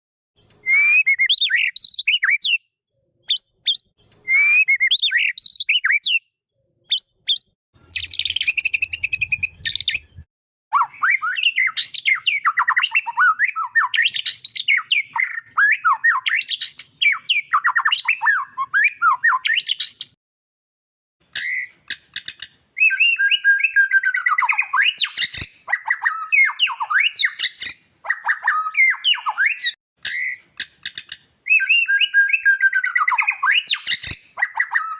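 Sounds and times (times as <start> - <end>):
bird singing whistled phrases: 0.6 - 2.7, 3.3 - 6.3, 6.9 - 20.2, 21.4 - 21.7, 22.8 - 30.4, 31.5 - 34.9.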